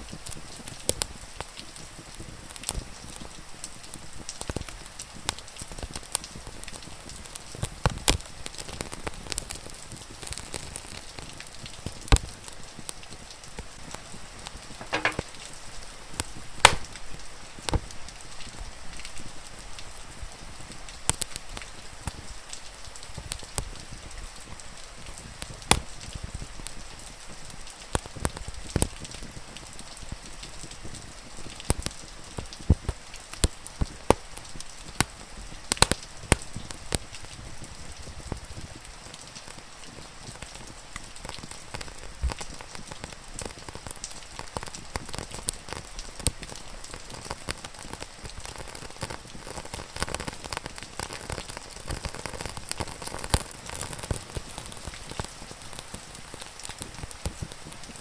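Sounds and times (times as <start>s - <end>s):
rain pattering: 0.0s - 58.0s
wood fire crackling and popping: 0.0s - 58.0s.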